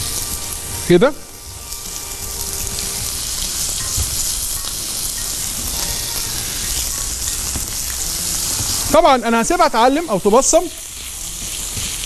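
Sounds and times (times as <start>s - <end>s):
chicken sizzling on grill pan: 0.0s - 12.0s.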